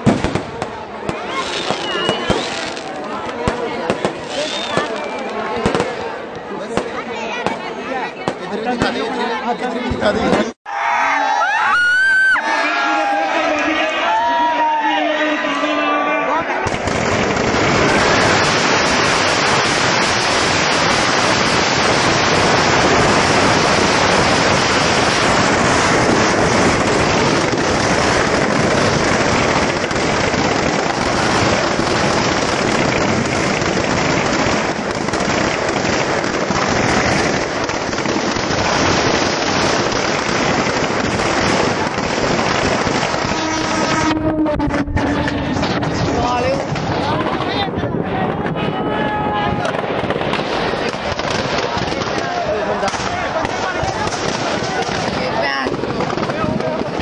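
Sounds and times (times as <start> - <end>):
firecrackers crackling: 0.0 - 10.6, 16.6 - 57.0.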